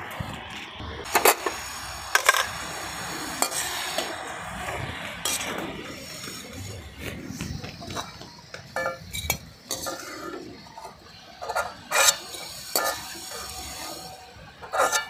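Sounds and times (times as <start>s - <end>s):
dough sizzling in hot oil: 1.0s - 15.0s.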